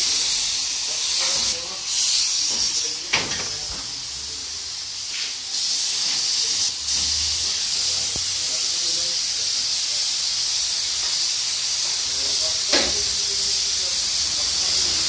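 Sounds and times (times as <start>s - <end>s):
spray gun hissing: 0.0s - 15.0s.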